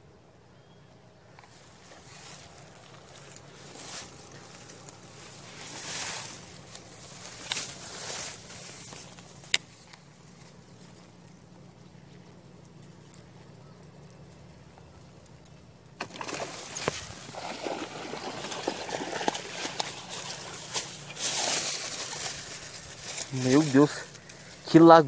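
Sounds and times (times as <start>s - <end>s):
faint outdoor background: 0.0s - 25.0s
grass and clothing rustling on microphone: 1.2s - 25.0s.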